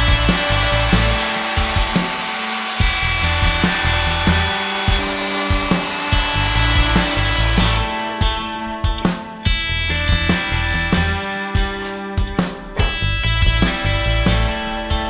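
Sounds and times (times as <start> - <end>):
background music with drum beat: 0.0 - 15.0.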